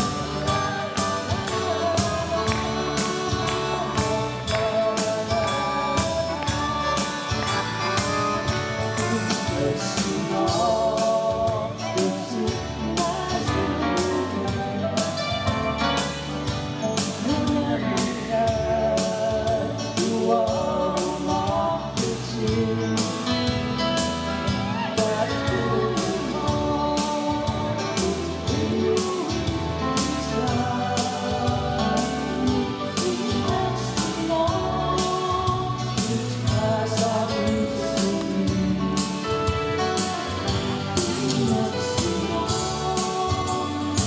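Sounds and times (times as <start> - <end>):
man and woman singing: 0.0 - 16.0, 16.9 - 23.6, 24.5 - 44.0
band with steady beat: 0.0 - 44.0.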